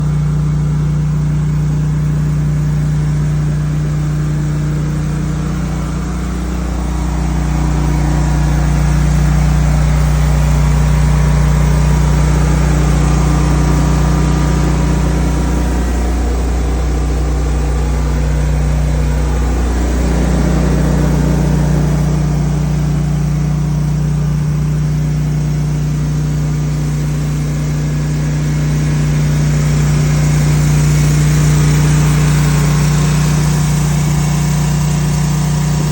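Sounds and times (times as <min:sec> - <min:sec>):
generator engine humming: 0:00.0 - 0:35.9.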